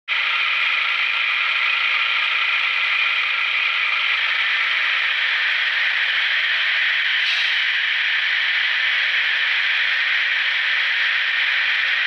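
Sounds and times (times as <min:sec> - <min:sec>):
diesel engine idling from small speaker: 0:00.1 - 0:12.0.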